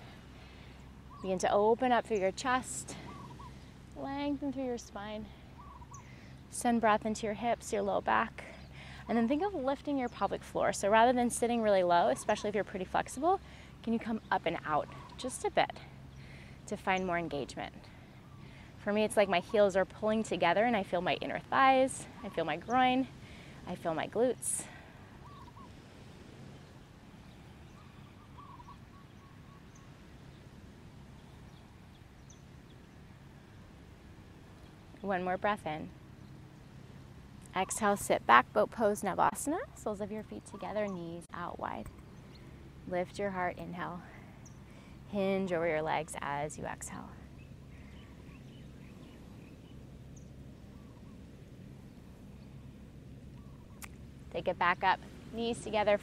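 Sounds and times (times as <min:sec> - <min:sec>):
faint bird calls: 0:00.0 - 0:06.6, 0:11.6 - 0:38.5, 0:39.2 - 0:56.0
low background hum: 0:00.0 - 0:56.0
low steady rumble: 0:00.0 - 0:56.0.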